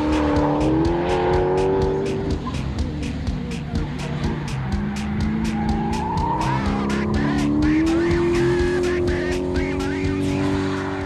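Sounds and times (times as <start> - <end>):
car engine running hard: 0.0 - 11.0
music with quick beat: 0.0 - 11.0.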